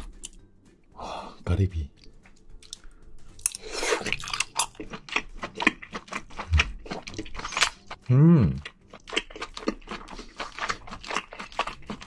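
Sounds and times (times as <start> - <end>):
person chewing: 2.0 - 12.0.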